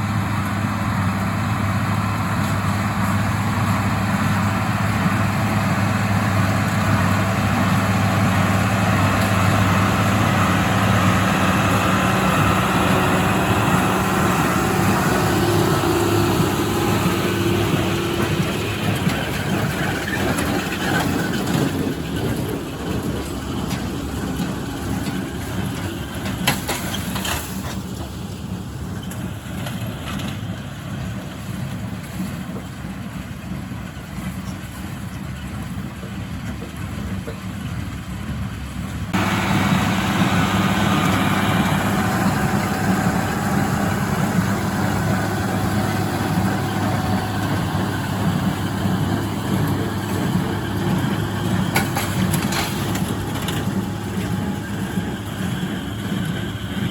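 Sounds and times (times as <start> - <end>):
diesel tractor engine under load: 0.0 - 56.9.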